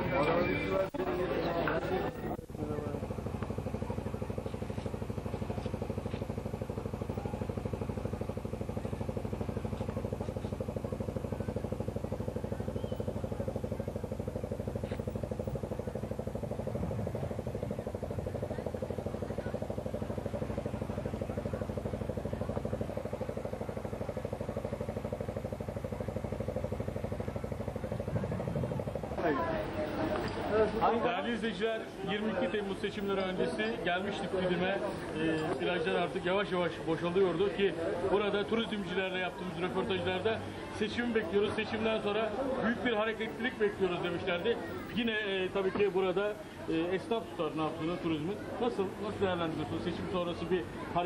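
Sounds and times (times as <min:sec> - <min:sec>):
engine running steadily: 0:00.0 - 0:51.0.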